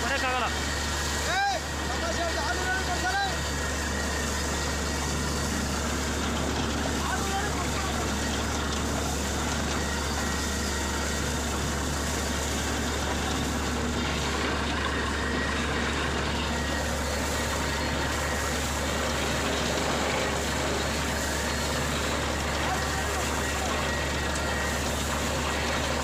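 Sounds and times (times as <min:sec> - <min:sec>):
drilling rig running: 0:00.0 - 0:26.0.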